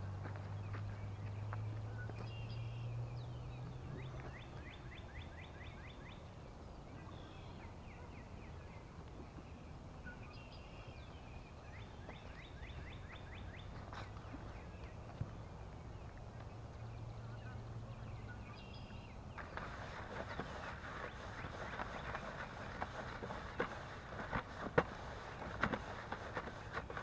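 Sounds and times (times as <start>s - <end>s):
low steady hum: 0.0s - 27.0s
songbird singing: 0.0s - 27.0s.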